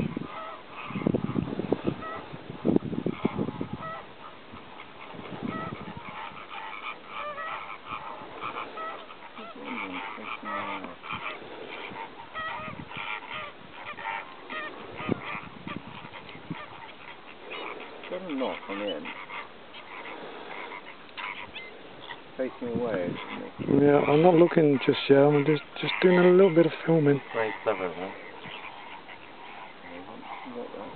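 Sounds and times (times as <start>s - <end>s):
flamingos honking: 0.0s - 30.9s.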